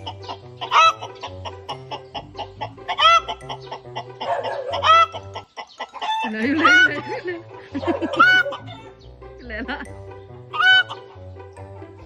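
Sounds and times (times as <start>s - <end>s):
chicken calls: 0.0s - 9.2s, 10.5s - 11.2s
background music with steady beat: 0.0s - 12.0s.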